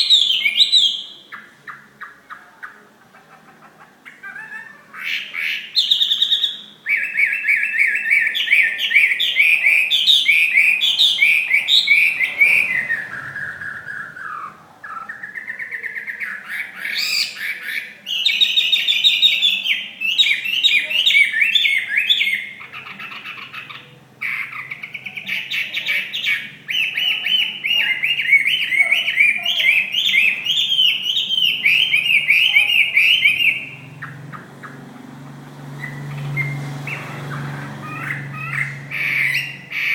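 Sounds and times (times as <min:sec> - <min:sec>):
songbird whistling song: 0:00.0 - 0:02.9, 0:04.1 - 0:34.9, 0:35.7 - 0:39.9.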